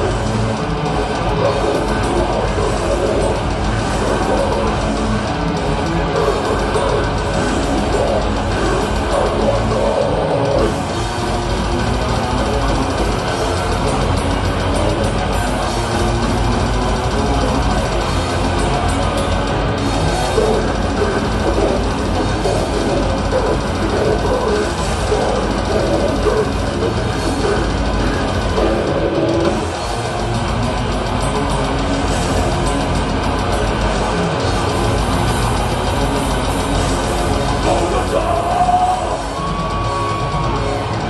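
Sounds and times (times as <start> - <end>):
distorted guitars: 0.0 - 41.0
fast drum kit: 0.0 - 41.0.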